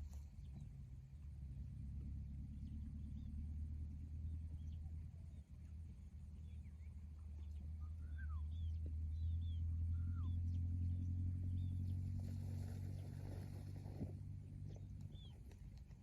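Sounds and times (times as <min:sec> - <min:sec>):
steady low rumble: 0:00.0 - 0:16.0
small birds chirping: 0:02.2 - 0:16.0.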